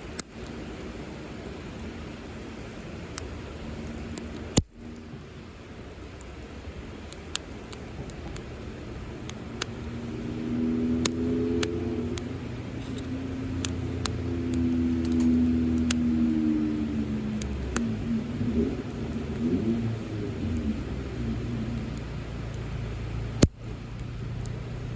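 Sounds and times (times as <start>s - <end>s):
low engine-like hum: 0.0s - 24.9s
wood fire crackling: 0.0s - 24.9s.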